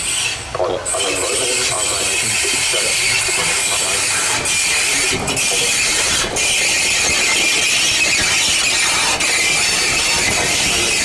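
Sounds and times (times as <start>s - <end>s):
steam locomotive hissing and squealing: 0.0s - 11.0s.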